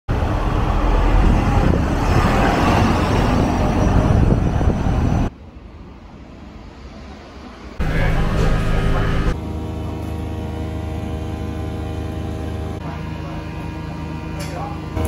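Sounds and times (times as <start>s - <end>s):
truck engine rumble: 0.1s - 5.4s, 7.8s - 15.0s
quiet street background: 0.1s - 15.0s.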